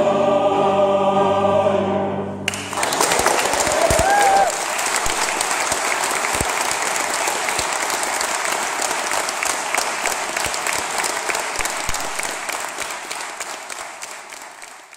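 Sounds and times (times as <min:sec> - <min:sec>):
audience applauding: 0:02.5 - 0:14.9.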